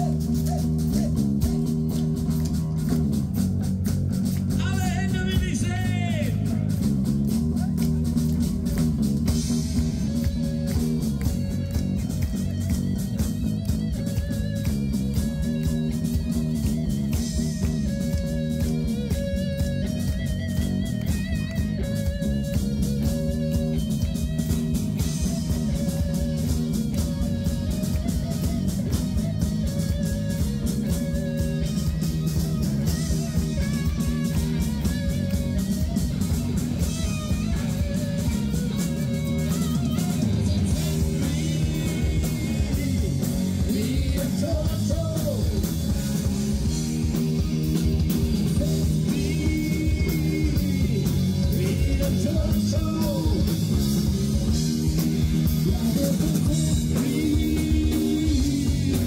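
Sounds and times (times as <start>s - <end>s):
rock band with guitar: 0.0s - 59.0s.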